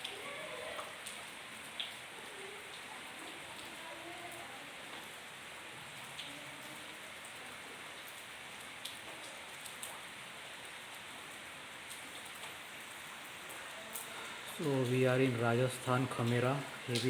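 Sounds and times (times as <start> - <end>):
heavy rain falling: 0.0 - 17.0
raindrops ticking close by: 0.0 - 17.0.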